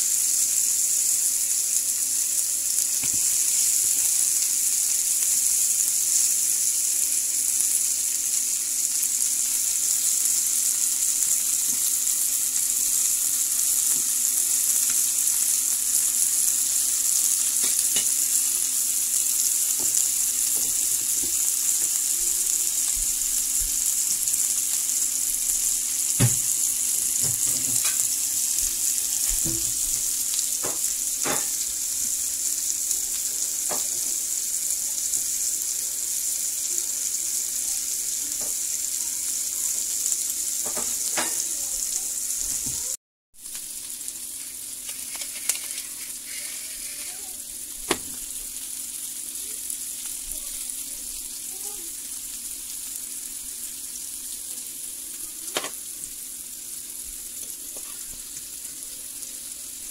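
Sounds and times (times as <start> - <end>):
meat sizzling in a skillet: 0.0 - 59.9.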